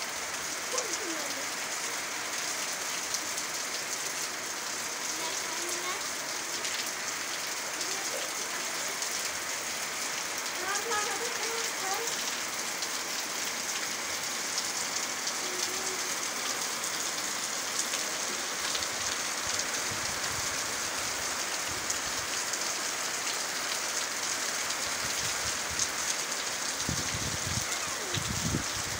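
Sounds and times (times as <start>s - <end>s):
heavy rain: 0.0s - 28.9s
raindrops ticking on hard surfaces: 0.0s - 28.9s.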